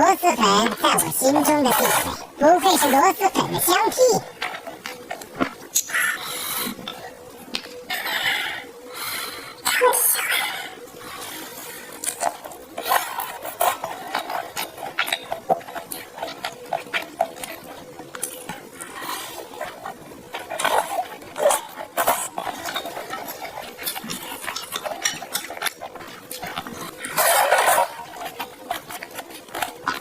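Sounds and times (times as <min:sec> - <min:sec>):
noodles slurped and chewed: 0:00.3 - 0:30.0.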